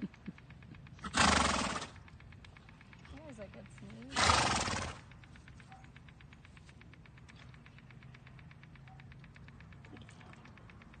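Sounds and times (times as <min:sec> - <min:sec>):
rapid even ticking: 0:00.0 - 0:11.0.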